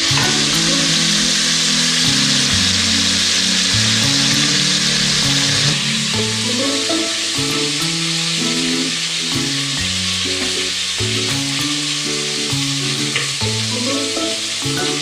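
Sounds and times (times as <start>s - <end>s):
chicken sizzling in hot oil: 0.0s - 15.0s
melodic background music: 0.0s - 15.0s.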